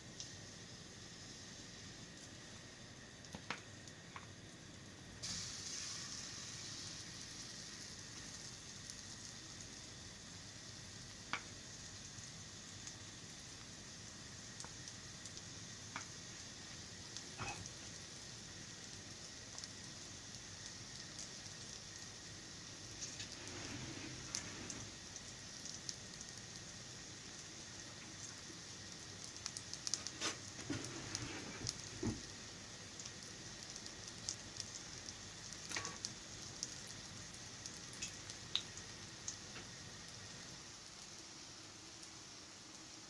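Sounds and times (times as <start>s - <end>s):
batter sizzling in a pan: 0.0s - 43.0s.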